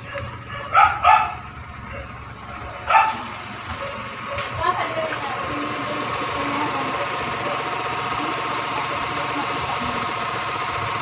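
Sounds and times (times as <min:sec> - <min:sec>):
small petrol engine idling: 0:00.0 - 0:11.0.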